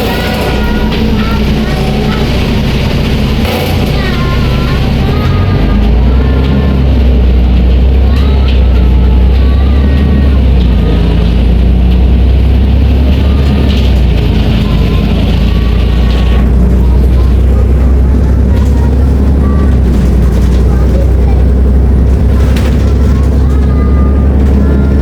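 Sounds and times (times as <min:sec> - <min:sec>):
bus diesel engine rumbling: 0:00.0 - 0:25.0.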